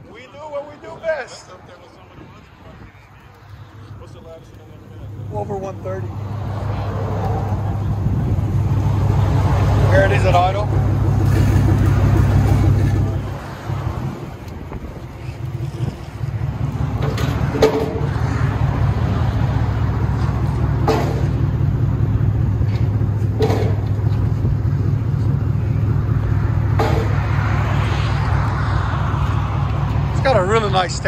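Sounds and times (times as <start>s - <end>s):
car engine idling: 2.9s - 31.0s.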